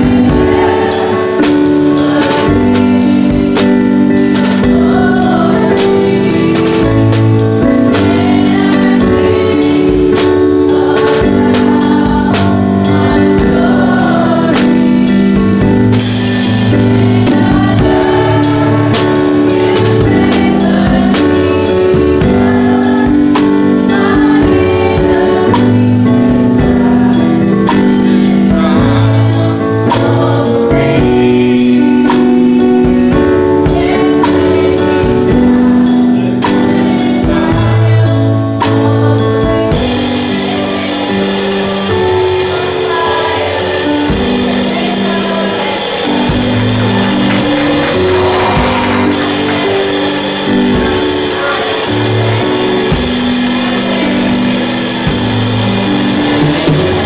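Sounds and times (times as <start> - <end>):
drum kit snare and cymbals: 0.0 - 57.0
gospel singing: 0.0 - 57.0
held keyboard chords: 0.0 - 57.0.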